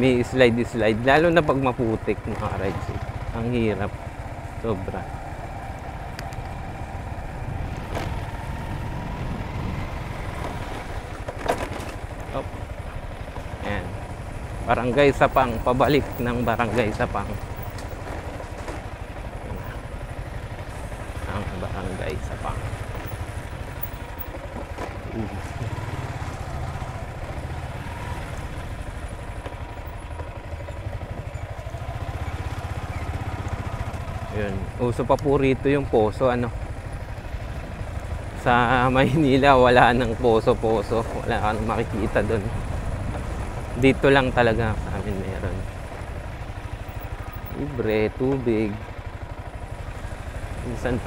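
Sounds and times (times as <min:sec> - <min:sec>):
motorcycle engine rumbling: 0:00.0 - 0:51.0.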